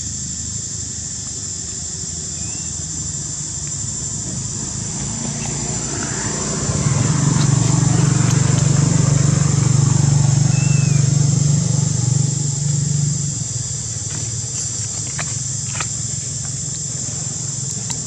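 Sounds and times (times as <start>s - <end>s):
vehicle engine running low: 0.0s - 18.0s.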